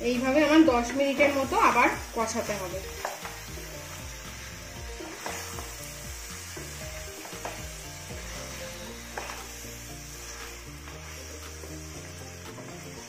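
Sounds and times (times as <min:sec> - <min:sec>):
background music: 0:00.0 - 0:13.0
meat sizzling in oil: 0:00.0 - 0:13.0
spatula scraping a pan: 0:00.3 - 0:13.0.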